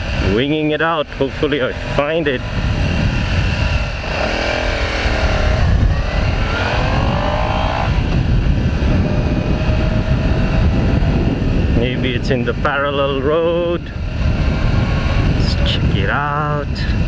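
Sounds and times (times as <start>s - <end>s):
motorcycle engine accelerating: 0.0s - 17.0s
wind rumble on microphone: 0.0s - 17.0s.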